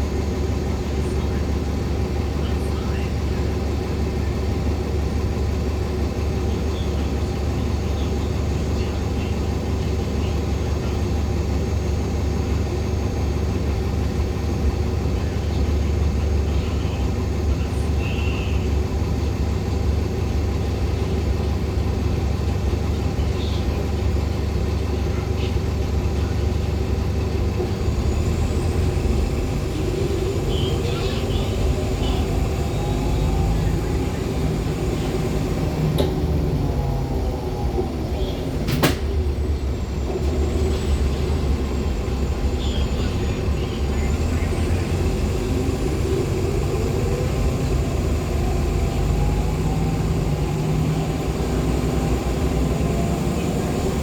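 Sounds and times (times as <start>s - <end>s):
bus engine low drone: 0.0s - 54.0s
road noise: 0.0s - 54.0s.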